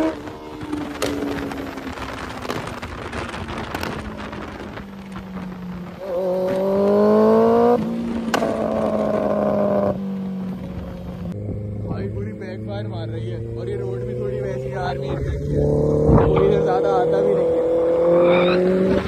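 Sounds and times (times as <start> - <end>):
motorcycle engine accelerating: 0.0 - 19.0
wind rushing over microphone: 0.0 - 19.0.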